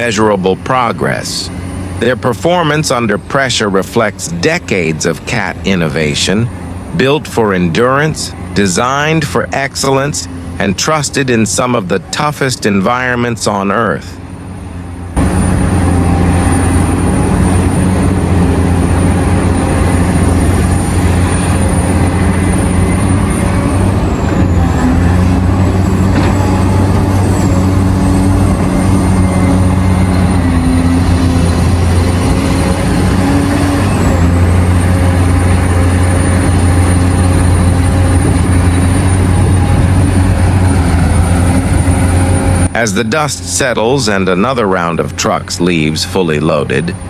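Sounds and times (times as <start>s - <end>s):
deep diesel engine drone: 0.0s - 47.0s.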